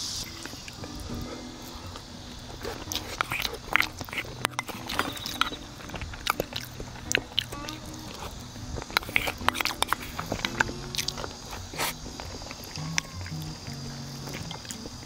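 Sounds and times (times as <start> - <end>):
chewing and mouth sounds: 0.2 - 15.0.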